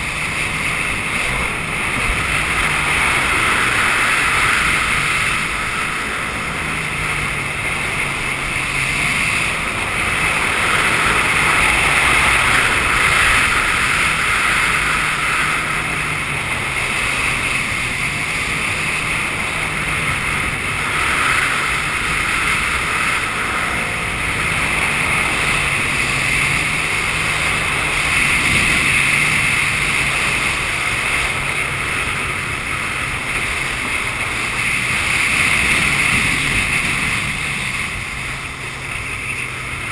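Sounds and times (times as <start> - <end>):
jet ski engine running: 0.0 - 39.9
water rushing: 0.0 - 39.9
wind on microphone: 0.0 - 39.9.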